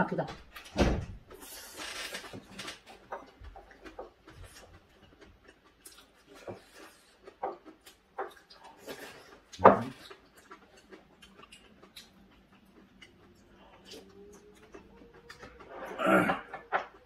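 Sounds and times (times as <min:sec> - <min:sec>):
chewing and mouth noises: 0:01.3 - 0:17.0.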